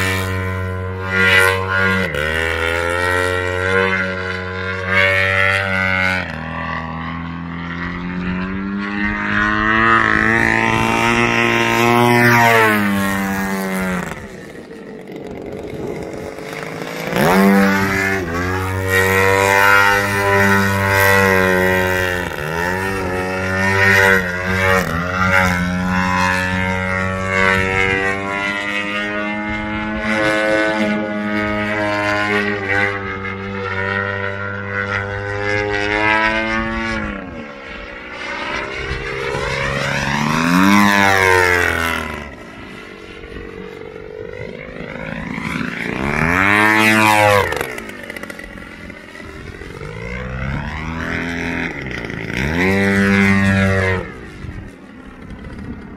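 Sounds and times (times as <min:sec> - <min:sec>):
model plane engine in flight: 0:00.0 - 0:55.9.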